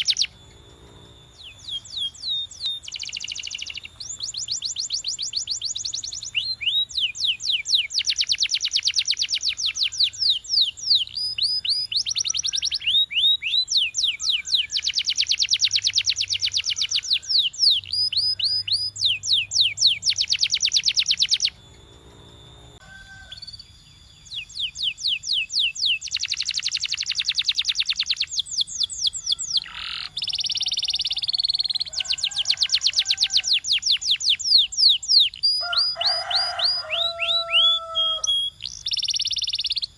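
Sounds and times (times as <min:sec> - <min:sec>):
canary trilling: 0:00.0 - 0:39.9.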